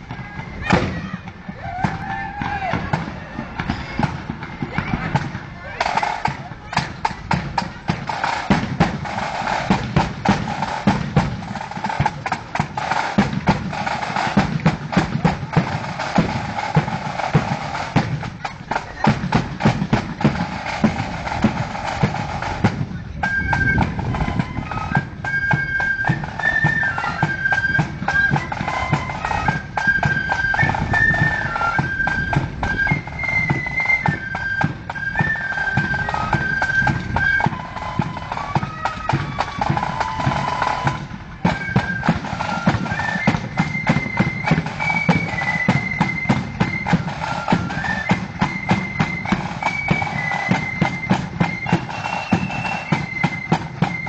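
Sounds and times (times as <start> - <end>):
flute band playing: 0.0 - 54.0
snare and bass drums: 0.0 - 54.0.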